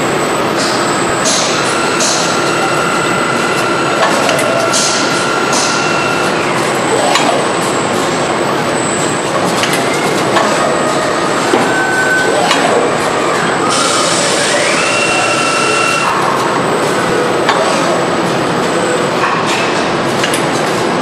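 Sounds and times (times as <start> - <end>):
factory machinery clatter and hiss: 0.0 - 21.0.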